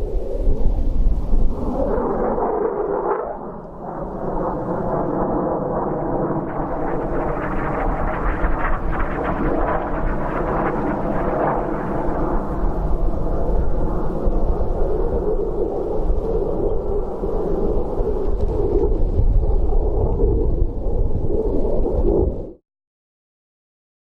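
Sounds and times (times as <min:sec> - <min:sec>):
wind rumble on microphone: 0:00.0 - 0:22.6.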